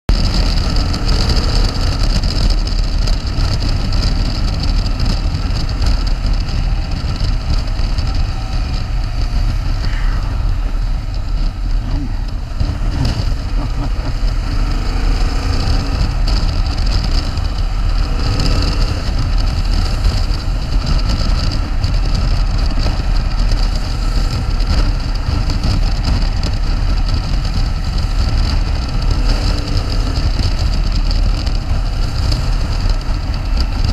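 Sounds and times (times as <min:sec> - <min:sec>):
motorcycle engine running: 0:00.1 - 0:33.9
wind rumble on microphone: 0:00.1 - 0:33.9.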